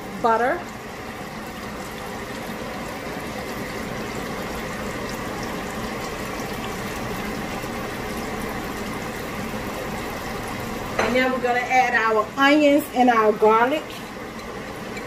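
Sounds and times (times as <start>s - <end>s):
sauce bubbling in a pot: 0.0s - 15.0s.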